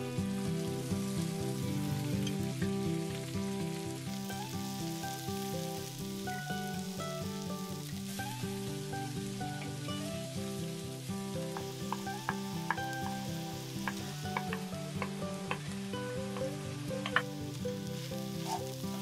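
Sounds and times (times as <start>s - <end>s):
background music: 0.0s - 19.0s
onions and peppers sizzling: 0.0s - 19.0s.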